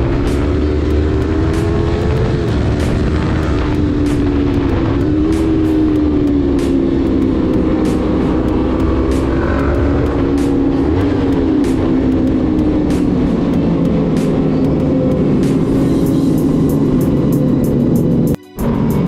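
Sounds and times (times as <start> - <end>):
motorcycle engine cruising: 0.0 - 19.0
road and wind rumble: 0.0 - 19.0.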